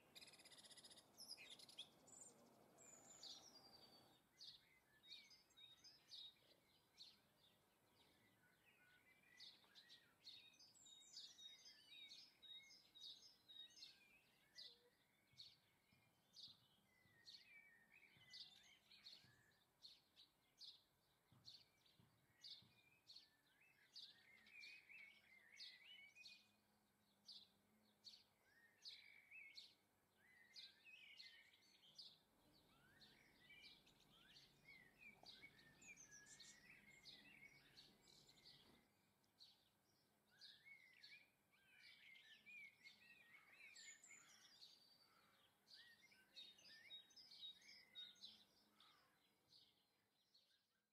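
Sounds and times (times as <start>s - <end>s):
small songbirds chirping: 0.0s - 50.9s.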